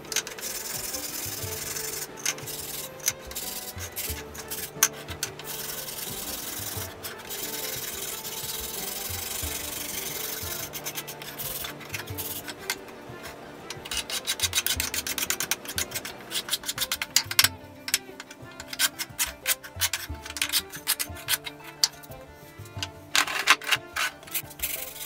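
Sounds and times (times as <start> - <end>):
metal file rasping on wood: 0.0 - 25.0.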